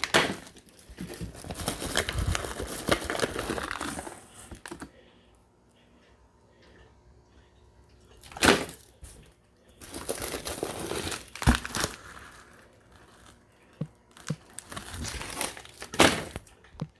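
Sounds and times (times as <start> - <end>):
packaging crinkling and rustling: 0.0 - 5.0, 8.2 - 17.0.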